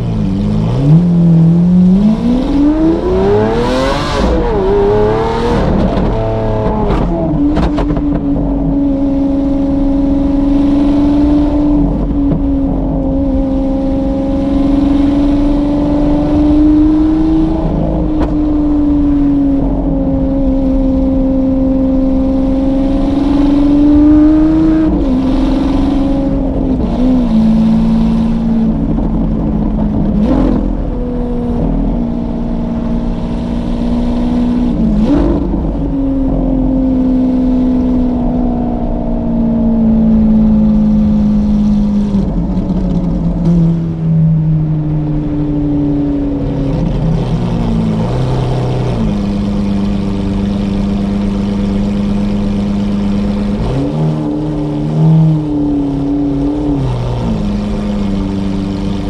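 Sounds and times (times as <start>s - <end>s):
sports car engine from cabin: 0.0s - 59.0s.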